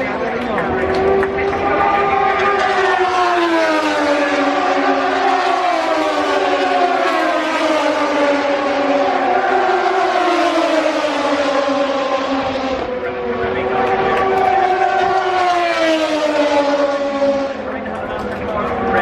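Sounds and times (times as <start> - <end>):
racing motorcycle engines droning: 0.0 - 19.0.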